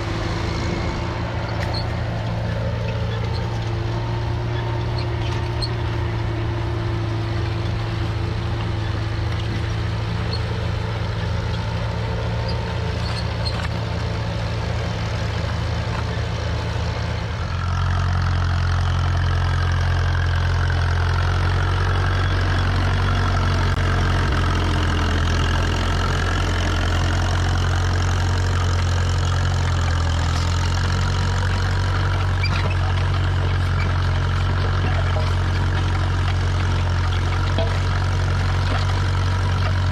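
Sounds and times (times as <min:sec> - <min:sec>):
tractor engine humming: 0:00.0 - 0:39.9.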